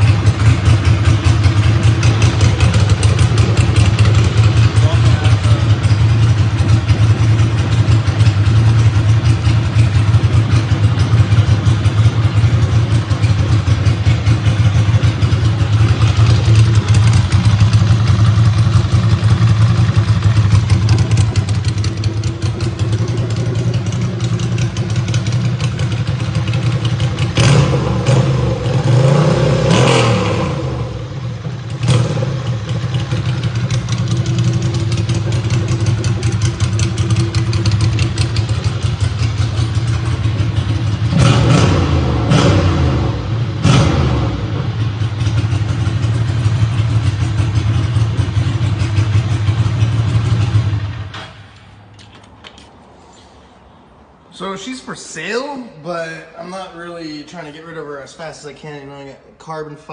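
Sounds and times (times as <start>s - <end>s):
motorcycle engine idling and revving: 0.0s - 52.8s.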